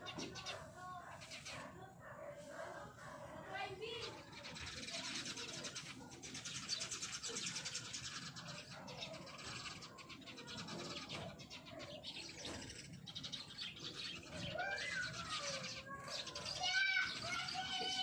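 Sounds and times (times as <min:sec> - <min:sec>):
birds chittering: 0:00.0 - 0:18.0.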